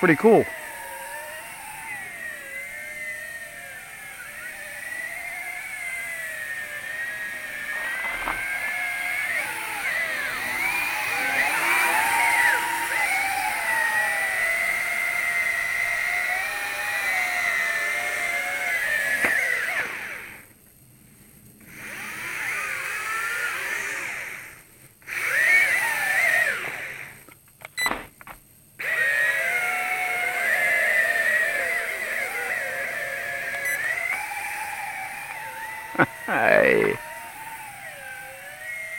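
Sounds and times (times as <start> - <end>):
small electric motors whining: 0.0 - 27.4, 28.8 - 38.9.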